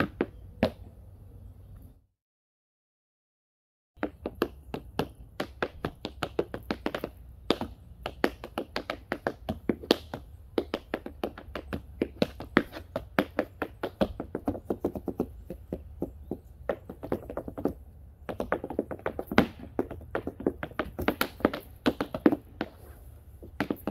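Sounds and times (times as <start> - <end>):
tap shoes on wooden board: 0.0 - 0.9, 4.0 - 23.9.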